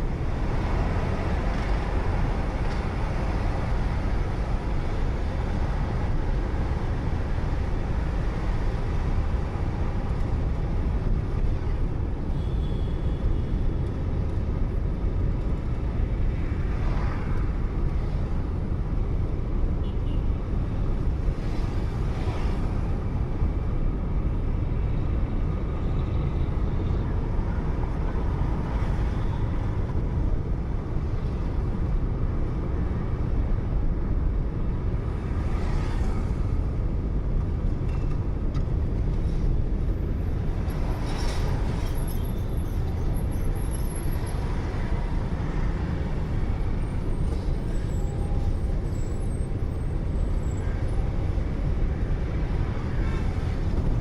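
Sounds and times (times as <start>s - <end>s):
road and engine rumble inside car: 0.0s - 54.0s.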